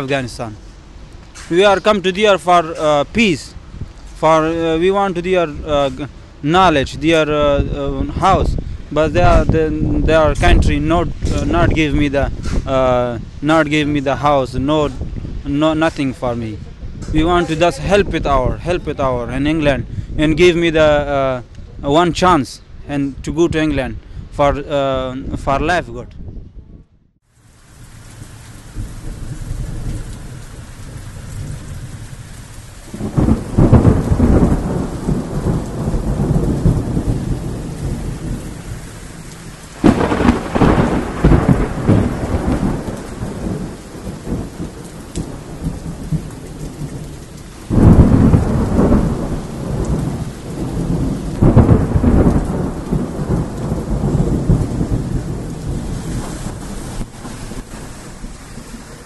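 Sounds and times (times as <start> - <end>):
heavy rain: 0.0 - 26.0, 27.2 - 59.0
rolling thunderclaps: 1.3 - 21.5, 27.7 - 59.0.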